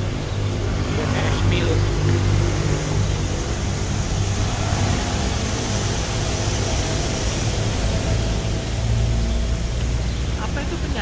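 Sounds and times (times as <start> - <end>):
roadside traffic rumble and hiss: 0.0 - 11.0.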